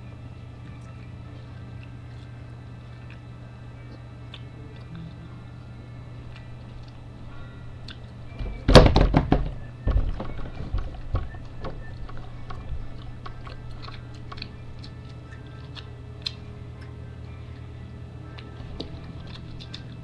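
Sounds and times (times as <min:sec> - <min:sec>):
low electrical hum: 0:00.0 - 0:20.0
food crunching: 0:00.7 - 0:08.6, 0:10.2 - 0:20.0.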